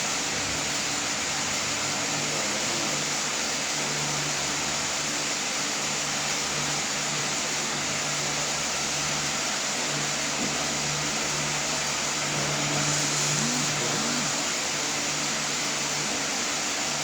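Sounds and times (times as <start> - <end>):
steady mechanical hiss: 0.0 - 17.0.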